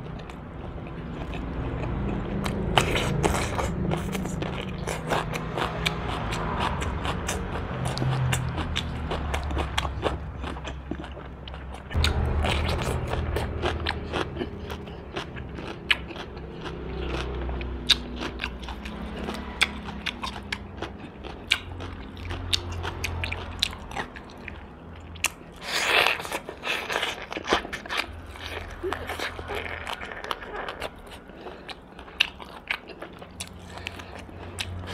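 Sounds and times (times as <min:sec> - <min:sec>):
chewing crunches: 0:00.0 - 0:34.9.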